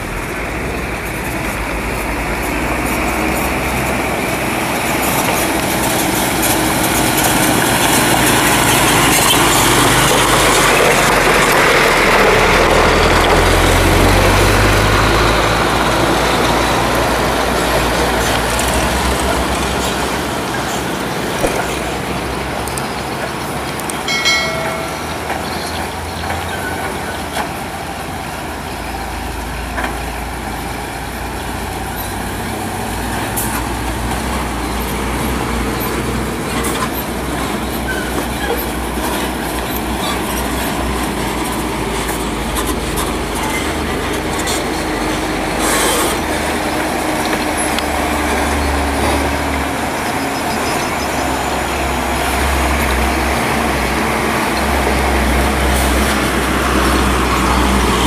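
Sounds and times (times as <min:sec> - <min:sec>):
diesel engines running low: 0:00.0 - 0:58.0
heavy trucks rolling on dirt road: 0:00.0 - 0:58.0.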